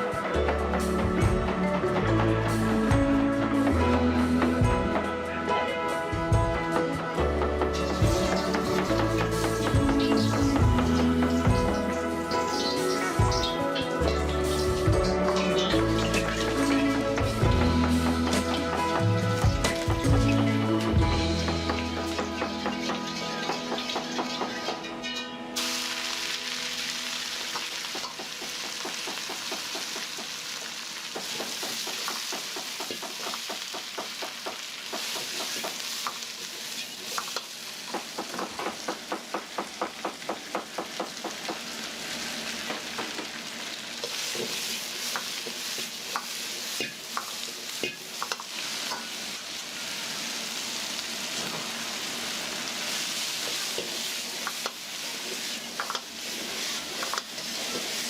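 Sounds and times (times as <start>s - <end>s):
food sizzling in a wok: 6.0s - 58.0s.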